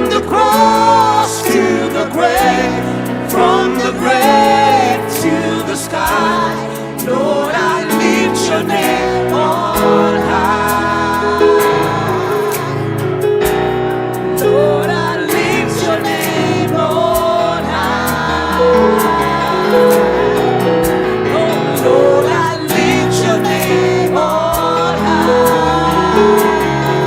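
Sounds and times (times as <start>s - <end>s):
gospel choir singing: 0.0s - 27.0s.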